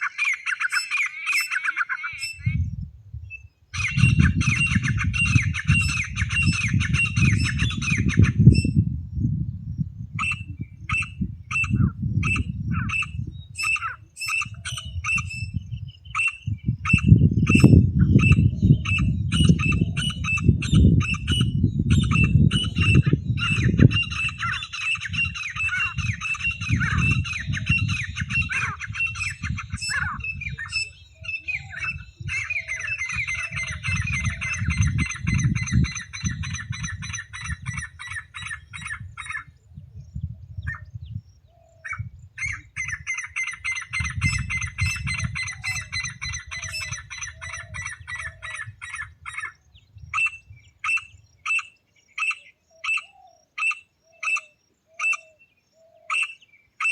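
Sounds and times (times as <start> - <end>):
francolin calling: 0.0 - 2.7, 3.3 - 8.9, 10.1 - 56.9.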